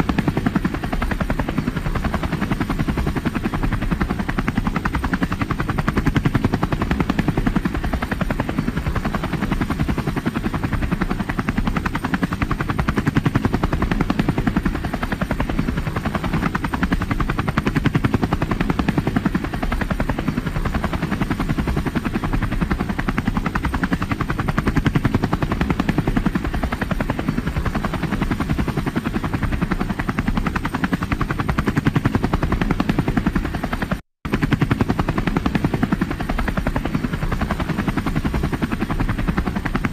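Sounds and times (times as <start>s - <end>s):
helicopter engine drone: 0.0s - 39.9s
helicopter rotor blades chopping: 0.0s - 39.9s.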